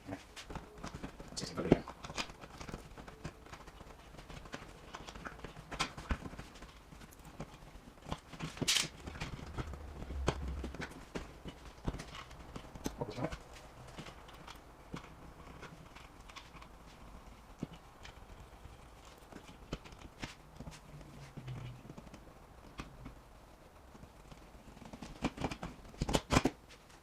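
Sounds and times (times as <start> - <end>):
clicks and taps of wiring work: 0.0 - 23.3, 23.9 - 27.0.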